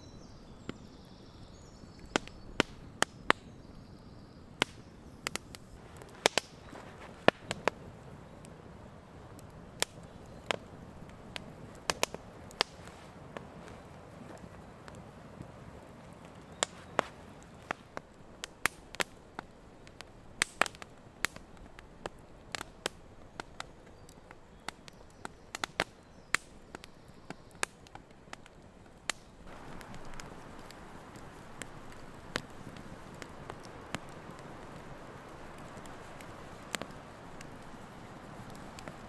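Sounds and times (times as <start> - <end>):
campfire crackling: 0.0 - 39.0
fire hissing: 1.6 - 26.8, 27.6 - 39.0.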